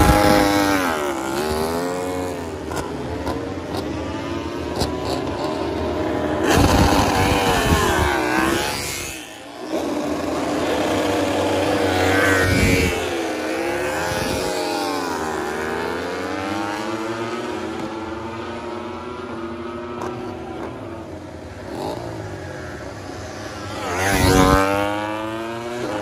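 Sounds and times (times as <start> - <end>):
race motorcycles revving past: 0.0 - 26.0.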